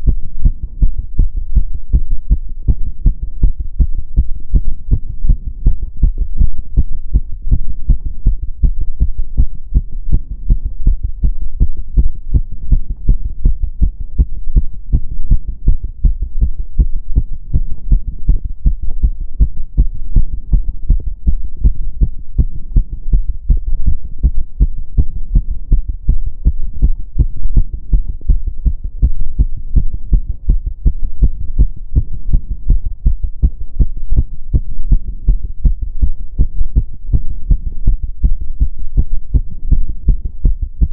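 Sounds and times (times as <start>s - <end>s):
fast heartbeat thudding: 0.0s - 40.9s.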